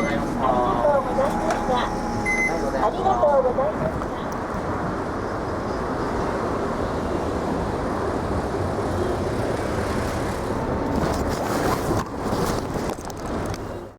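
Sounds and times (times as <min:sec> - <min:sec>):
bus engine and road noise: 0:00.0 - 0:13.9.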